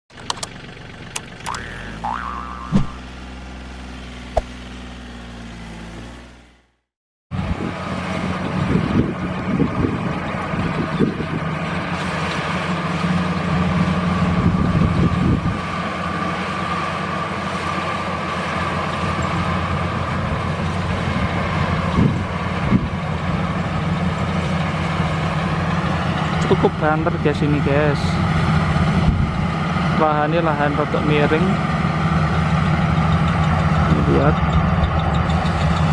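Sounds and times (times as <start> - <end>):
harvester engine hum: 0.1 - 6.6, 7.4 - 35.9.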